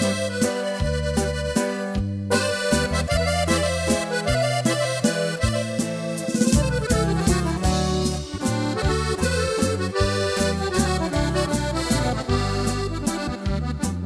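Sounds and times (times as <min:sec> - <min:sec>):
accordion lead: 0:00.0 - 0:14.0
bass line: 0:00.0 - 0:14.0
steady beat: 0:00.0 - 0:14.0.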